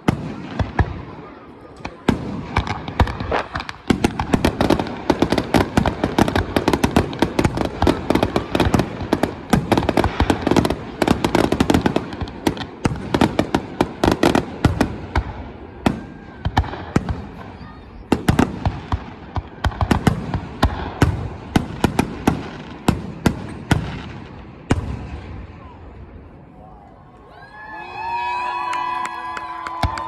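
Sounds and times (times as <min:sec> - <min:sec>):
fireworks exploding: 0:00.0 - 0:26.5, 0:27.5 - 0:30.0.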